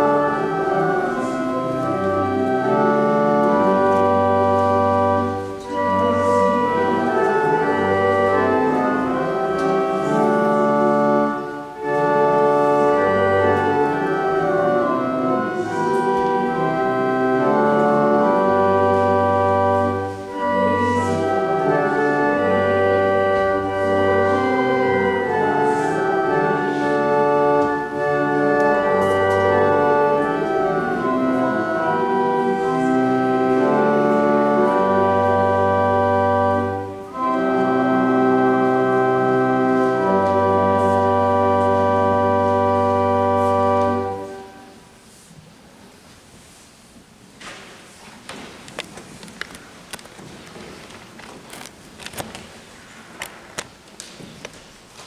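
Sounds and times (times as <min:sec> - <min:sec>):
church organ playing: 0:00.0 - 0:45.0, 0:49.4 - 0:54.0.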